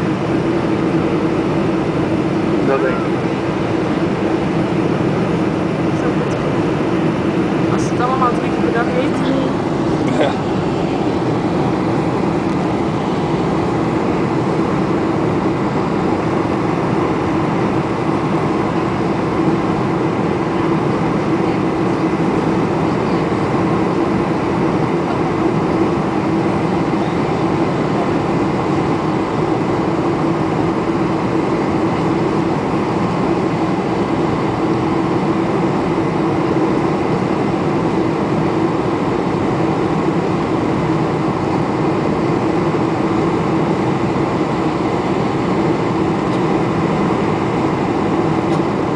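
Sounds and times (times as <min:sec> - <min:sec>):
air rushing along fuselage: 0:00.0 - 0:48.9
jet engines droning: 0:00.0 - 0:48.9.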